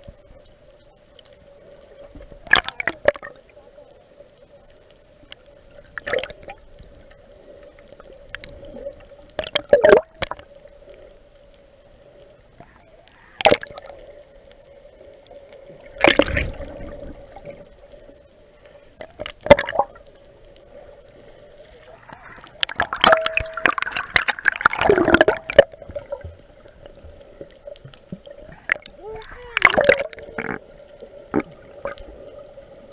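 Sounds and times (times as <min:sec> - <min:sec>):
underwater gurgling and sloshing: 0:00.0 - 0:32.9.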